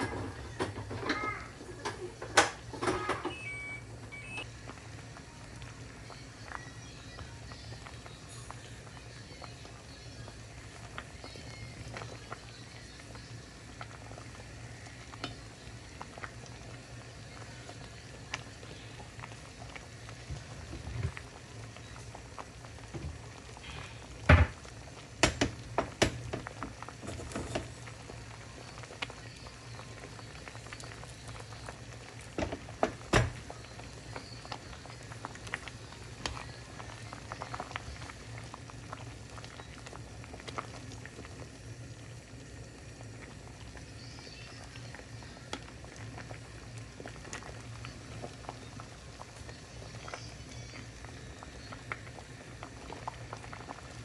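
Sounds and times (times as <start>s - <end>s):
soup boiling in a pot: 0.0s - 54.0s.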